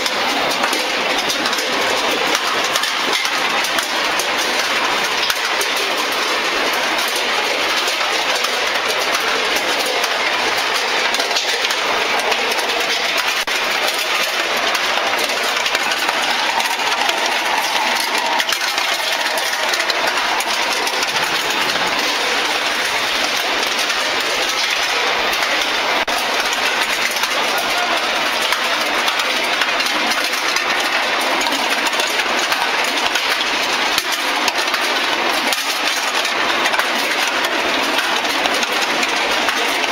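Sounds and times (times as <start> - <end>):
factory machinery running: 0.0 - 39.9
steel balls clattering: 0.0 - 39.9.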